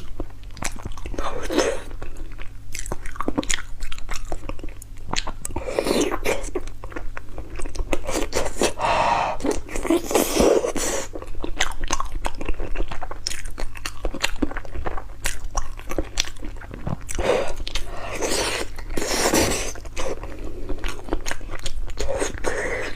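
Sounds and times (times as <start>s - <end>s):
chewing and crunching bones: 0.0s - 22.9s.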